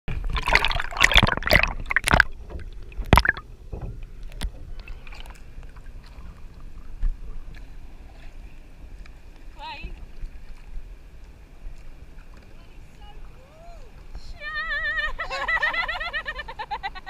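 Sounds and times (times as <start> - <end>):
water splashing and sloshing: 0.1 - 16.9
water lapping: 0.1 - 17.0.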